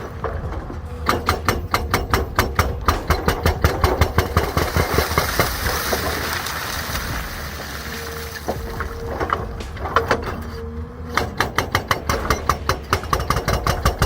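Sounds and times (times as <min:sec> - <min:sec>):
diesel engine running: 0:00.0 - 0:14.0
hydraulic breaker hammering rock: 0:00.0 - 0:14.0.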